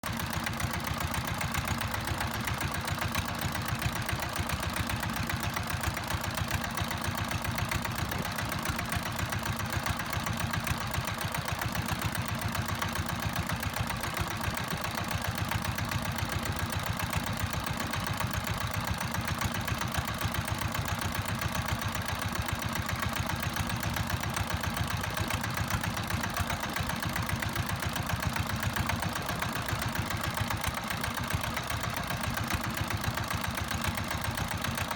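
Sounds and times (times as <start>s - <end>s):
boat engine chugging: 0.0s - 34.9s.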